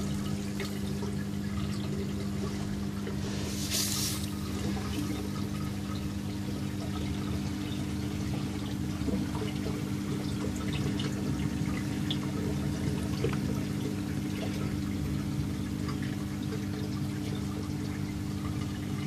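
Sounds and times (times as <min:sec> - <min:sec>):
aquarium water splashing and trickling: 0:00.0 - 0:19.0
steady low hum: 0:00.0 - 0:19.0.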